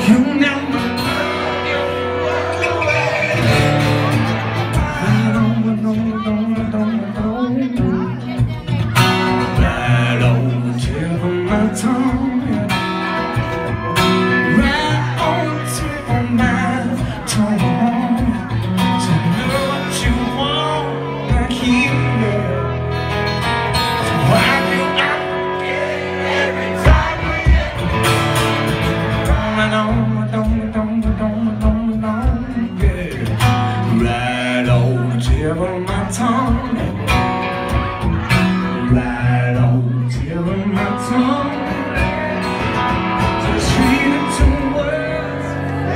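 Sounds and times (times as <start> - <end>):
electric guitar playing: 0.0 - 45.9
man singing: 0.0 - 45.9.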